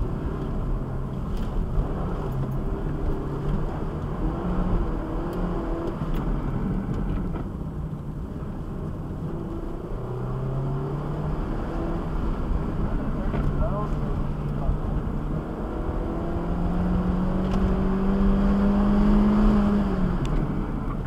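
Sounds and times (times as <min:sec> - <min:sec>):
car engine revving: 0:00.0 - 0:07.4, 0:08.5 - 0:21.0
road and tyre noise: 0:00.0 - 0:21.0.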